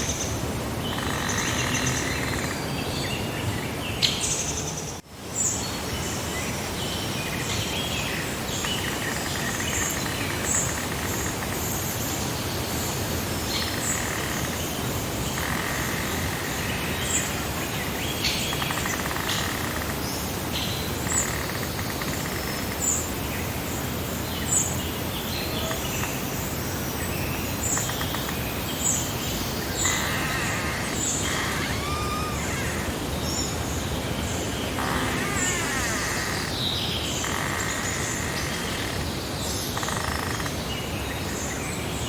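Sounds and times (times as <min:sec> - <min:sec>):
birds warbling calls: 0:00.0 - 0:05.0, 0:07.9 - 0:12.2, 0:12.8 - 0:23.2, 0:24.4 - 0:41.2.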